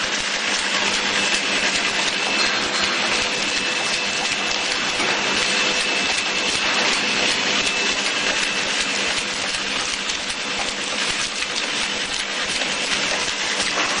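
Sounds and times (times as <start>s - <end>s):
low machine hum: 0.0s - 14.0s
packing machine rapid ticking: 0.0s - 14.0s.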